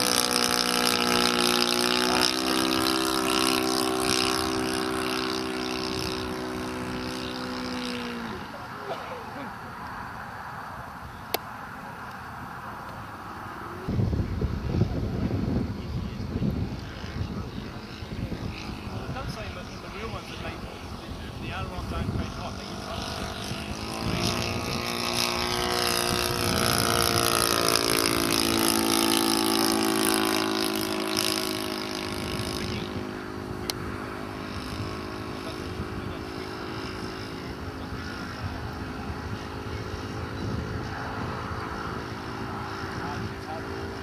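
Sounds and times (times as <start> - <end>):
model aircraft engine flying: 0.0 - 44.0.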